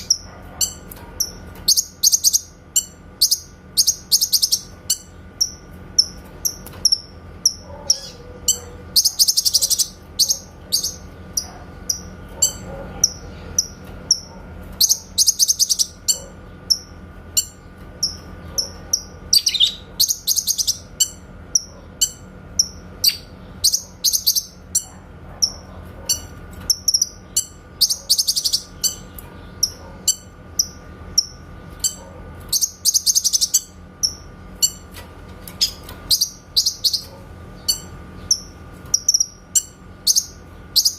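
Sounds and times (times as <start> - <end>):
bird chirping: 0.0 - 34.8, 35.6 - 40.9
bird trilling: 0.0 - 34.9, 35.6 - 40.9.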